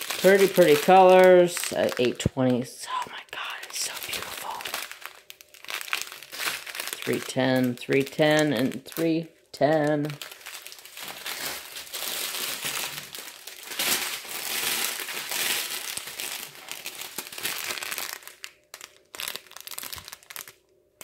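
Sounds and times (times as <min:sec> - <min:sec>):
plastic bags crinkling: 0:00.0 - 0:20.7.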